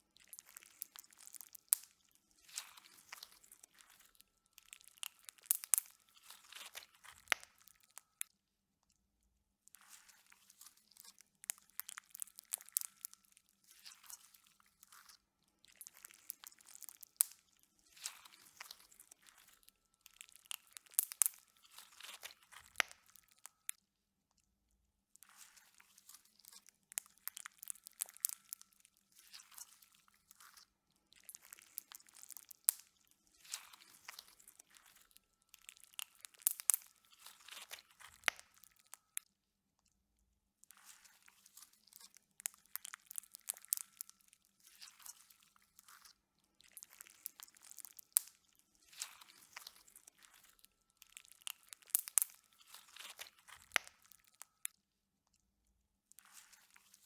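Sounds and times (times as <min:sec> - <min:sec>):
slime squishing with crackles: 0:00.0 - 0:08.4, 0:09.0 - 0:57.0.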